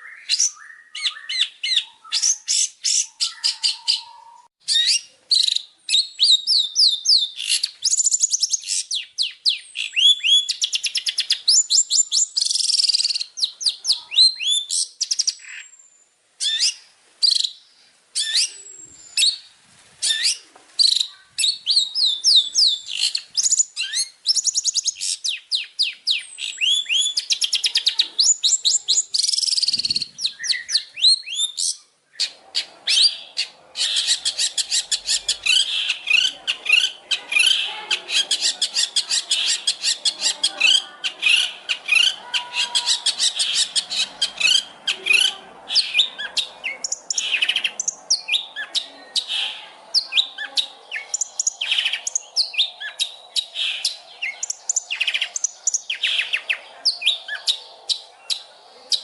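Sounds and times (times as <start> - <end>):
songbird singing: 0.0 - 59.0
faint background hiss: 4.2 - 59.0.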